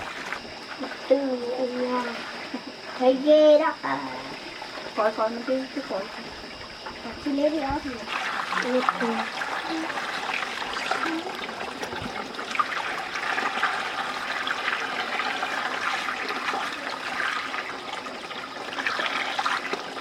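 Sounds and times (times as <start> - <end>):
running water trickling: 0.0 - 20.0.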